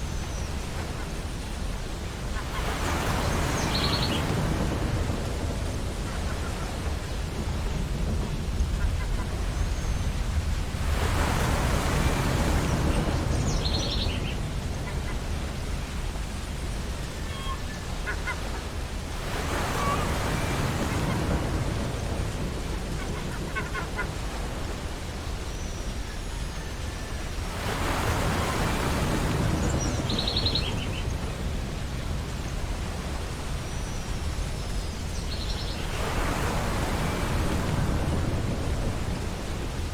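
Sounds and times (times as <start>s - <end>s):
low rumble of surf: 0.0s - 39.9s
ocean waves breaking on beach: 0.0s - 39.9s.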